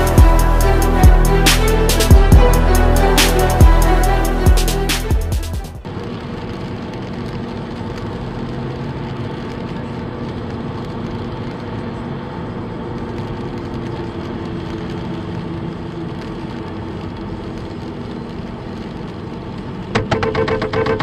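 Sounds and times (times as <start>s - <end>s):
tyre hiss on wet road: 0.0s - 19.9s
engine and tyre drone: 0.0s - 21.0s.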